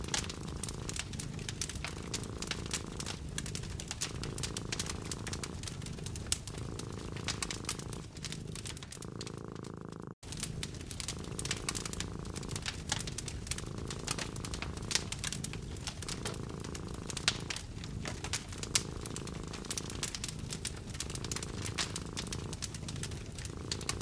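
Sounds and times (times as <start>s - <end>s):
cat purring: 0.0s - 24.0s
wood fire crackling: 0.0s - 24.0s.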